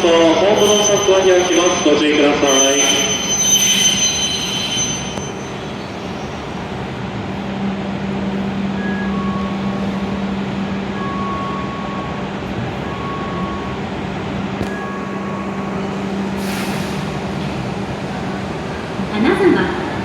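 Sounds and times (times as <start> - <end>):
train rumbling slowly: 0.0 - 20.0.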